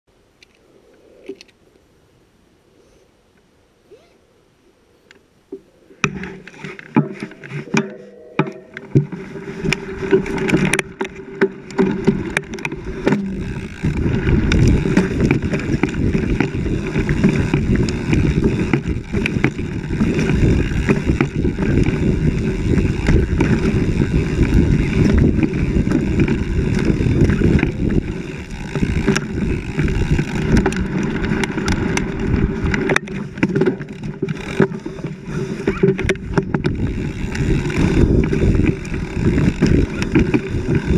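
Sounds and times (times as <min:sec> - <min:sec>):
bike tyres rumbling on dirt trail: 0:06.0 - 0:40.9.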